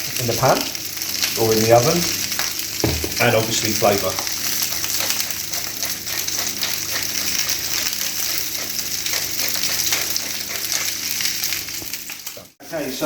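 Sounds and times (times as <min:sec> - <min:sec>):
sausages sizzling in a frying pan: 0:00.0 - 0:13.0.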